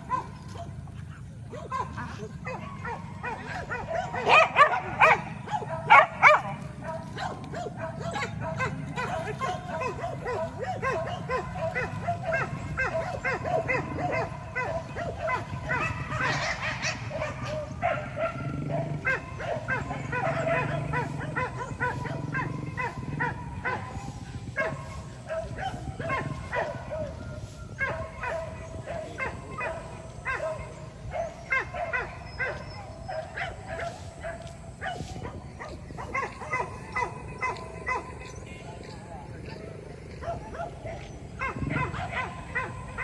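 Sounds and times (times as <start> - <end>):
dogs barking and yelping: 0.0 - 43.0.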